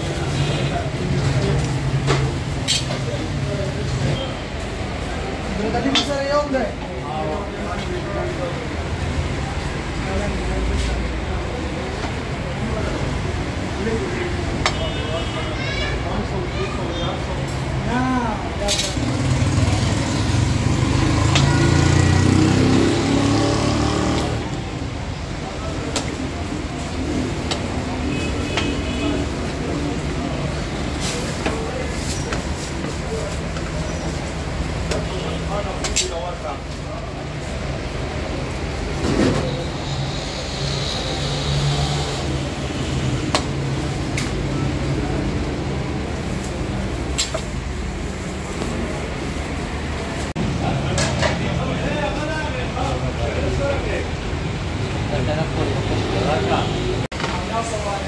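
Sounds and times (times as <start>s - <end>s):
voices: 0.0s - 58.0s.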